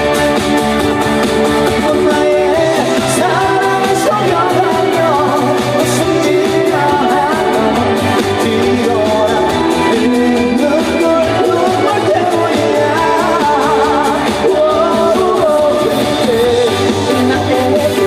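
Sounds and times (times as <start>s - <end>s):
live band music over pa: 0.0s - 18.0s
person singing: 1.2s - 18.0s.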